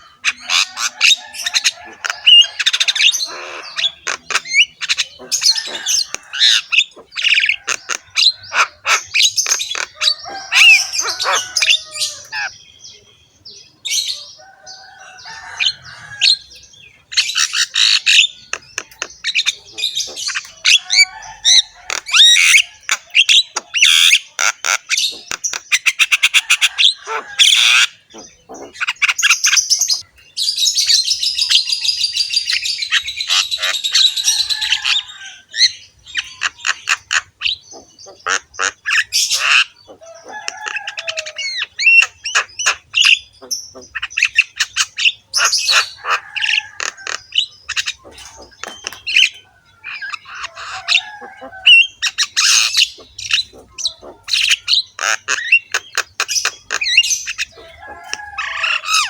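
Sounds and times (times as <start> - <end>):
bird squawking and chattering: 0.0 - 12.7, 13.8 - 59.0.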